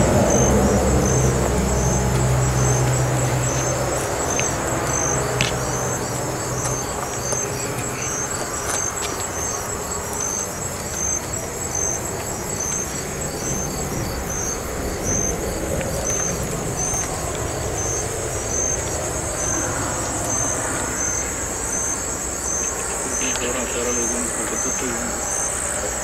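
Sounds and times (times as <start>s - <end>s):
distant road traffic: 0.0s - 26.0s
insect trill: 0.0s - 26.0s
insects chirping: 0.0s - 26.0s.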